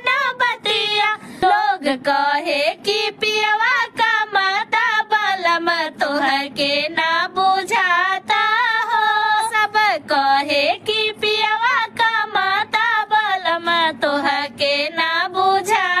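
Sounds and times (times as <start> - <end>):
woman singing folk song: 0.0 - 16.0.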